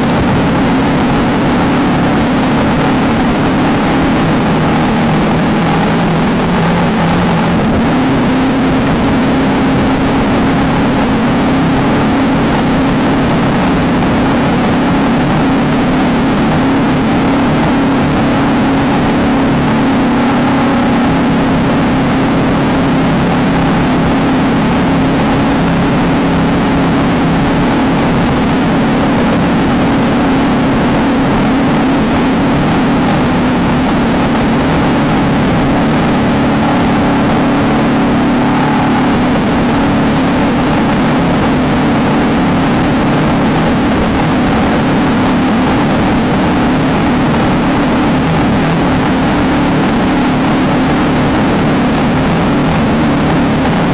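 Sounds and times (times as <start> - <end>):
driving noise: 0.0 - 53.9
race car engine at high load: 0.0 - 53.9.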